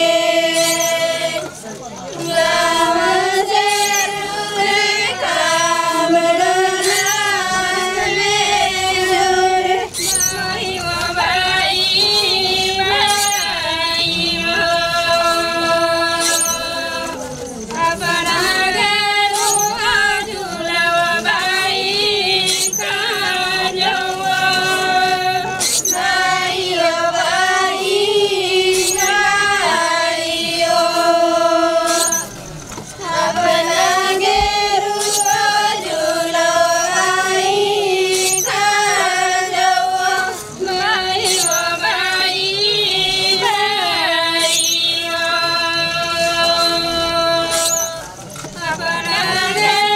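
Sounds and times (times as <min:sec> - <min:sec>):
women singing in unison: 0:00.0 - 0:49.9.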